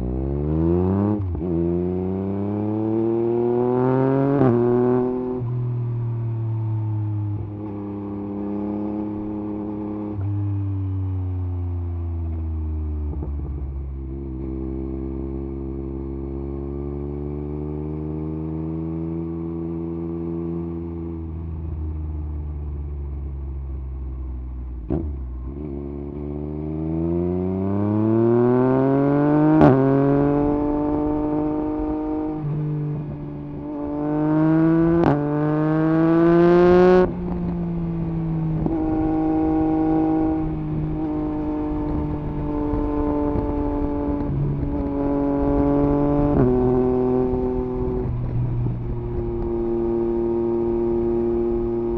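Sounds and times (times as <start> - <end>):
motorcycle engine revving: 0.0 - 21.9, 24.8 - 51.9.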